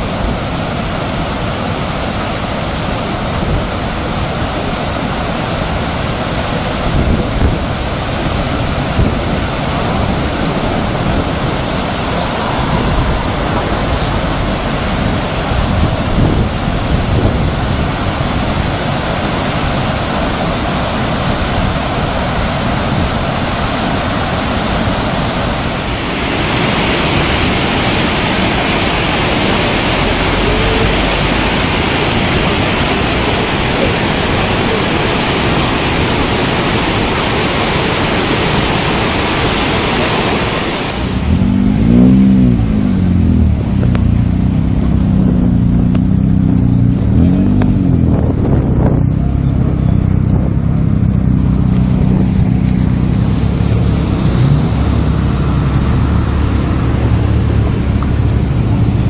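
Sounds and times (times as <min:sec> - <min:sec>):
water rushing down a gorge: 0:00.0 - 0:48.4, 0:49.0 - 0:59.0.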